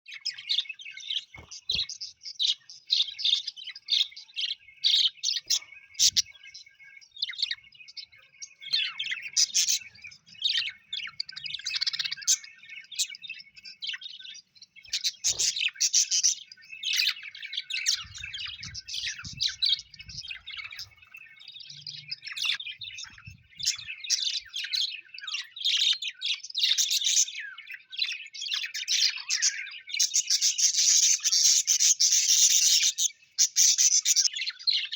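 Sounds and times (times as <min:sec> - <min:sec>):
parrots chirping and warbling: 0:00.1 - 0:34.9.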